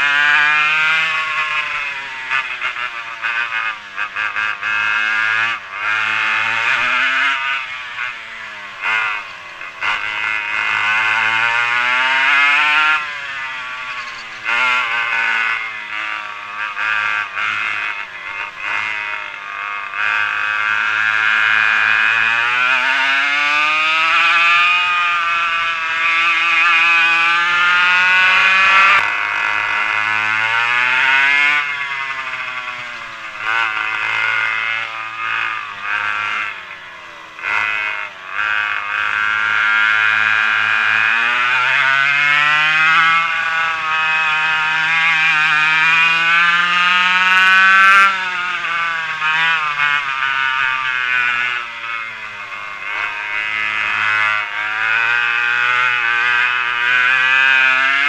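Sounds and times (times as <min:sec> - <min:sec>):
kart engines revving: 0:00.0 - 0:58.0.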